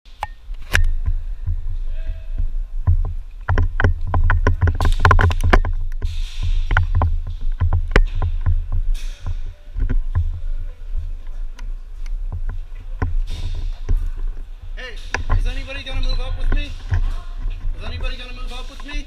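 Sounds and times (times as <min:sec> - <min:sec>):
wind rumble: 0:00.4 - 0:19.0
sharp clicks and knocks: 0:02.8 - 0:19.0.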